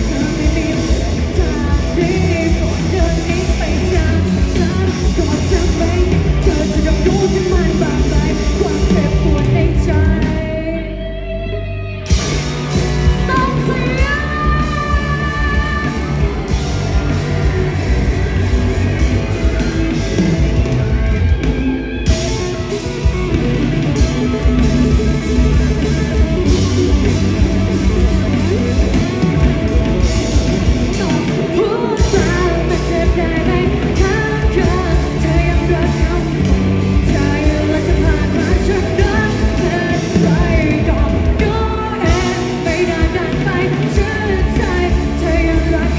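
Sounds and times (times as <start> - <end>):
person singing: 0.0 - 45.9
rock band playing: 0.0 - 45.9.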